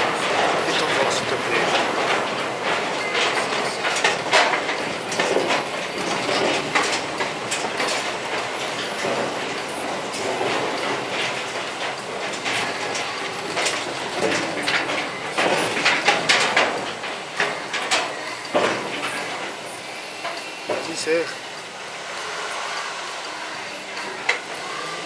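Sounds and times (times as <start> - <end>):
tyres rumbling on steel deck: 0.0 - 25.0
wheels clanking over plates: 0.0 - 25.0.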